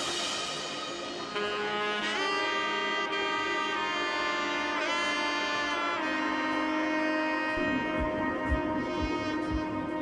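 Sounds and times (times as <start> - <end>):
melody of long held notes: 0.0 - 10.0.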